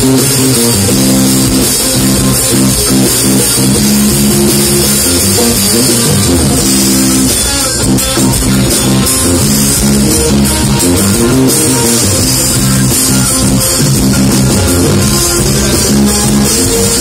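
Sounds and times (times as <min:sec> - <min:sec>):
bass guitar: 0:00.0 - 0:17.0
drum kit with cymbals: 0:00.0 - 0:17.0
electric guitars: 0:00.0 - 0:17.0.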